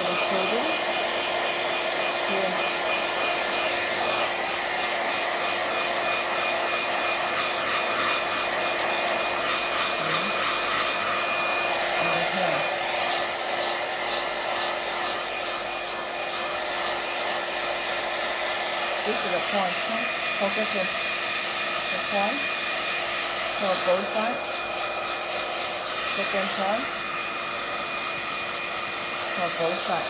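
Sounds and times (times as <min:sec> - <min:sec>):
fan blowing air: 0:00.0 - 0:30.0.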